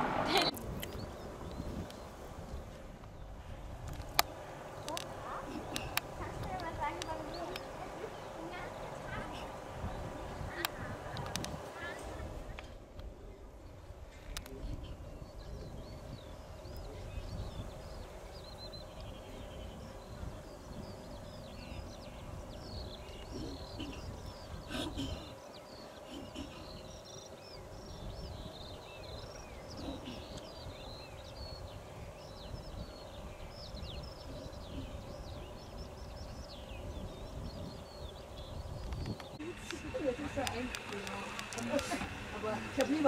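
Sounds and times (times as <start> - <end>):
faint steady hum: 0.0 - 43.0
small birds twittering: 0.0 - 43.0
wind rumble on microphone: 0.0 - 43.0.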